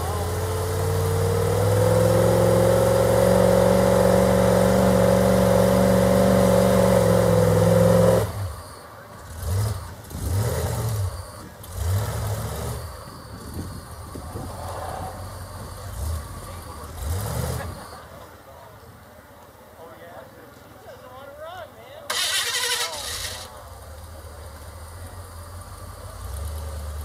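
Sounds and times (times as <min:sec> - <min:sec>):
buggy engine at high revs: 0:00.0 - 0:18.1, 0:22.1 - 0:27.0
engine throttle blips: 0:00.0 - 0:18.4, 0:22.1 - 0:27.0.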